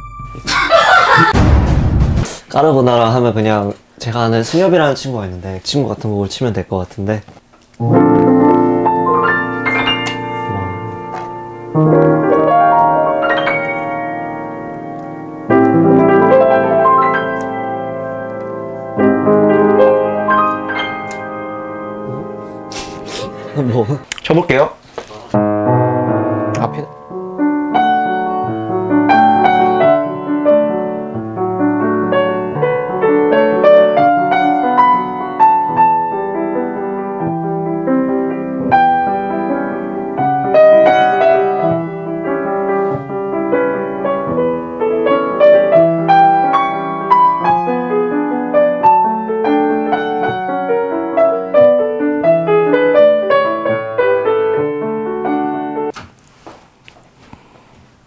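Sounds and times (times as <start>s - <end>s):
solo piano playing: 0.0s - 0.5s, 7.8s - 24.0s, 25.3s - 56.0s.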